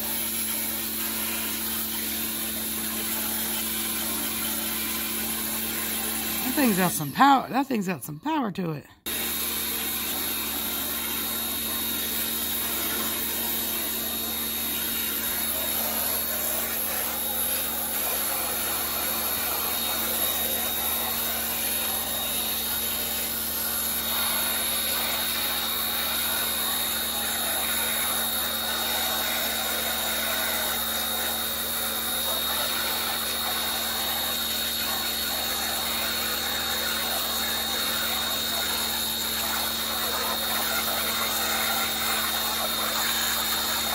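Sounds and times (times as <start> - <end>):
pressure washer spraying: 0.0 - 6.9, 9.1 - 43.9.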